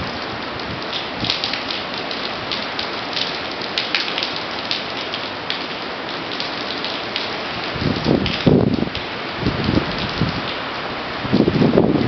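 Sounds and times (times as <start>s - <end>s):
heavy rain on concrete: 0.0s - 12.0s.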